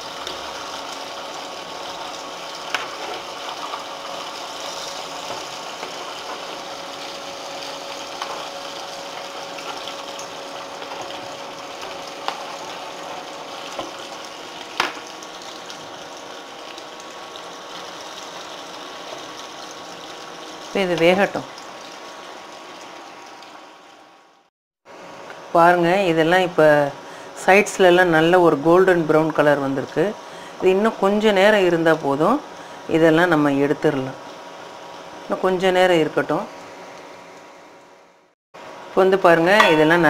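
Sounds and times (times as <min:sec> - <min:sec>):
deep-frying sizzle and bubbling: 0:00.0 - 0:40.0.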